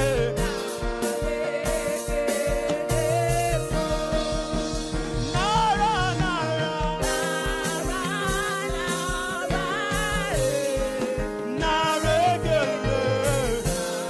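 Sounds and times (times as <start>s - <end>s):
bass and drum beat: 0.0s - 14.0s
gospel singing: 0.0s - 14.0s
sustained instrumental chords: 0.0s - 14.0s.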